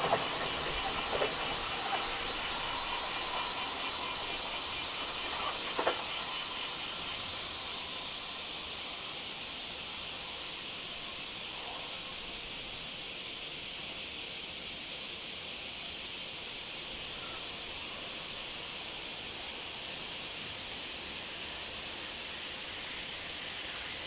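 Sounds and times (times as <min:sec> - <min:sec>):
cicadas chorus: 0:00.0 - 0:24.0.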